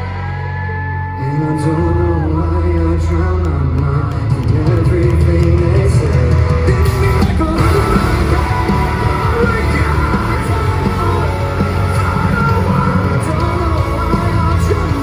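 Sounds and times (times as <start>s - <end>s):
vocals over band: 0.0s - 15.0s
metal band playing live: 1.7s - 15.0s.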